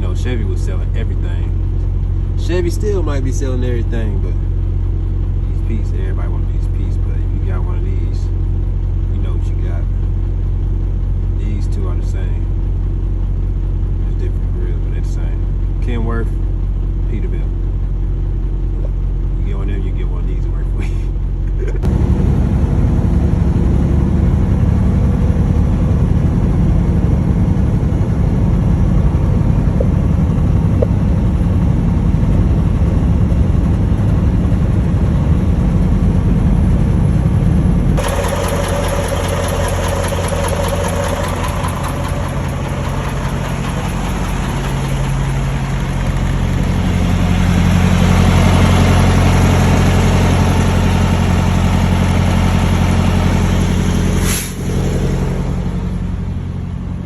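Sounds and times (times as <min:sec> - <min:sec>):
diesel truck engine droning: 0:00.0 - 0:57.0
road noise: 0:00.0 - 0:57.0.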